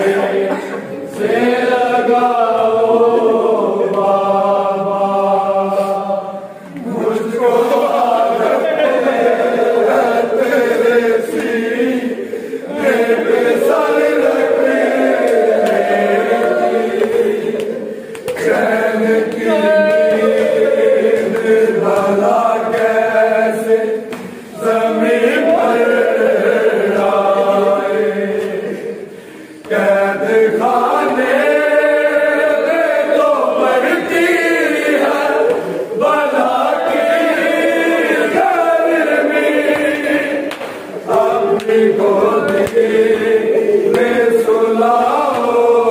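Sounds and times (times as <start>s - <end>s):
men chanting together: 0.0s - 45.9s.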